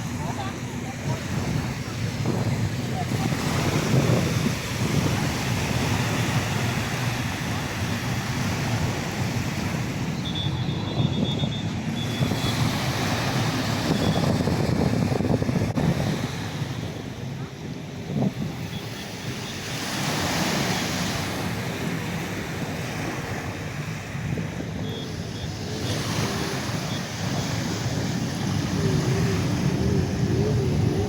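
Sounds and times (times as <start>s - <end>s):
sea surf: 0.0s - 31.0s
wind buffeting microphone: 0.0s - 31.0s.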